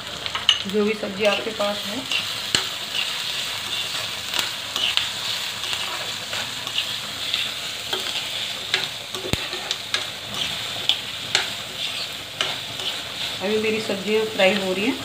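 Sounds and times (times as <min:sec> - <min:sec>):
vegetables sizzling in pan: 0:00.0 - 0:15.0
utensil scraping pan: 0:01.2 - 0:13.4.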